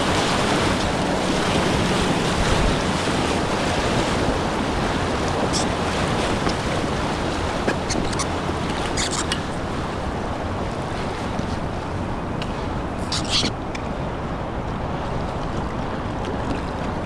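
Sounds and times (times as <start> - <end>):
river water rushing: 0.0 - 17.0
water splashes: 0.0 - 17.0
wind buffeting microphone: 0.0 - 17.0.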